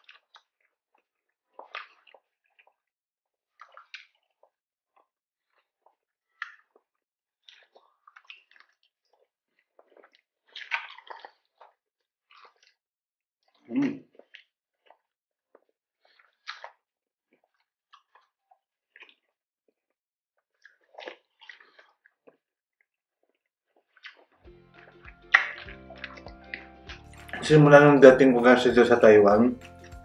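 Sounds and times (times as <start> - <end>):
chewing and crunching fried food: 0.0 - 27.6.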